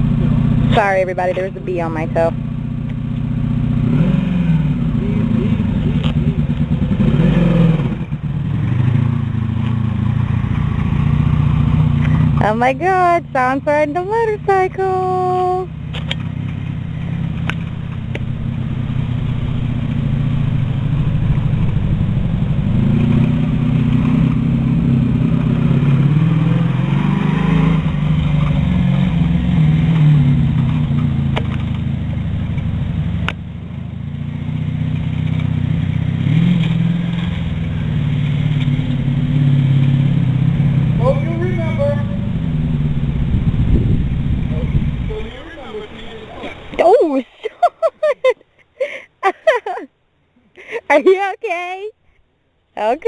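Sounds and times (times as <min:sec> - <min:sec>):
motorcycle engine revving unevenly: 0:00.0 - 0:47.1.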